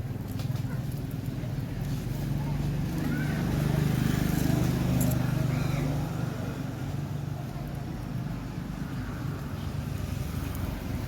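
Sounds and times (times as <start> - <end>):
traffic rumble: 0.0 - 11.0
vehicle engine hum: 0.0 - 11.0.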